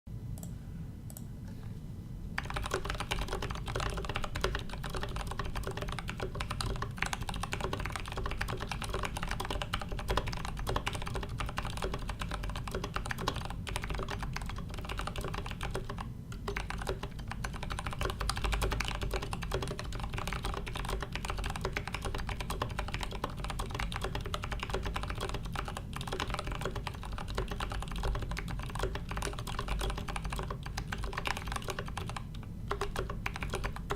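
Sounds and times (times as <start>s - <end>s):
muted mechanical keyboard typing: 2.4s - 33.9s.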